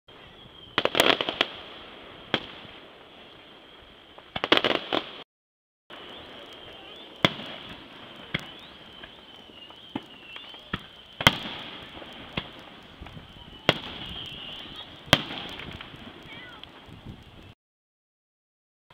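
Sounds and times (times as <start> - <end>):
fireworks bangs and crackles: 0.1 - 5.3, 5.9 - 17.6.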